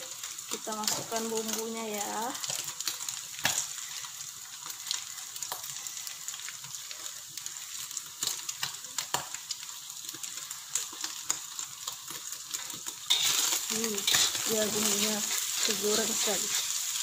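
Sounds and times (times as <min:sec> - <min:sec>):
stir-fry sizzling in oil: 0:00.0 - 0:17.0.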